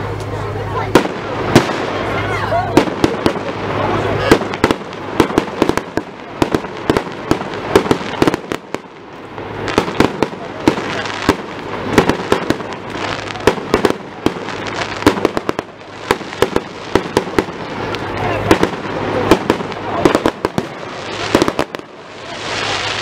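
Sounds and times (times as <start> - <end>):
firework shells bursting: 2.7 - 22.4.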